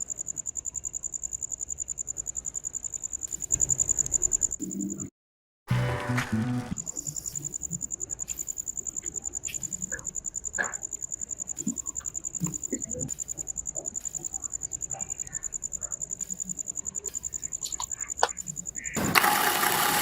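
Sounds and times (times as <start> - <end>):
cricket trilling: 0.0 - 5.1, 6.8 - 19.9.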